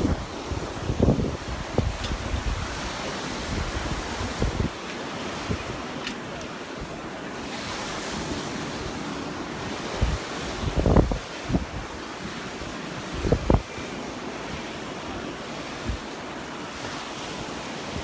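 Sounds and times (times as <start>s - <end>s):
surf washing onto beach: 0.0s - 18.0s
wind gusting on microphone: 0.0s - 18.0s.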